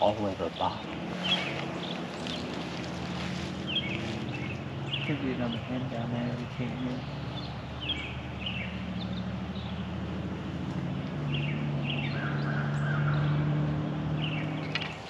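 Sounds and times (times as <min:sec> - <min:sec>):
distant engine drone: 0:00.0 - 0:15.0
small birds chirping: 0:00.0 - 0:15.0.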